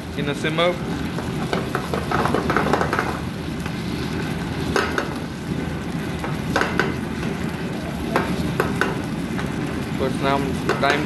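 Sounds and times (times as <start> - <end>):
sauce bubbling and sizzling in a pan: 0.0 - 11.0.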